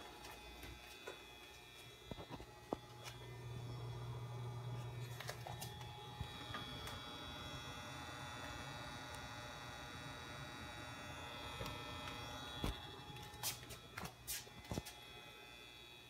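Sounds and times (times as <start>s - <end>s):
computer electrical hum and buzz: 0.0s - 16.0s
thin high whine: 0.0s - 16.0s.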